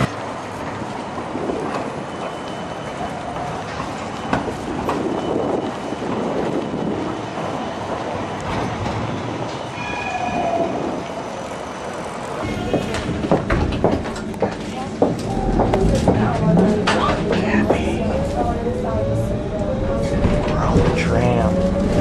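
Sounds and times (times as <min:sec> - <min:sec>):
tram rumbling and rattling: 0:00.0 - 0:22.0.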